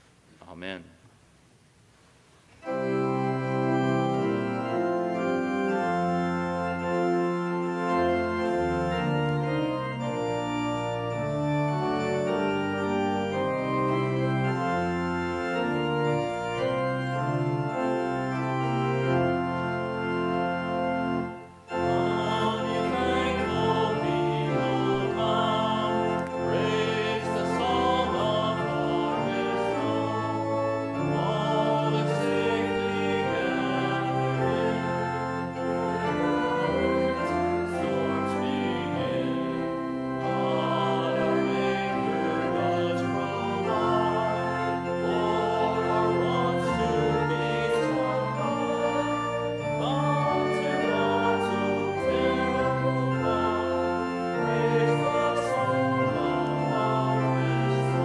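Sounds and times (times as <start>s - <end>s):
church organ playing chords: 2.6s - 58.0s.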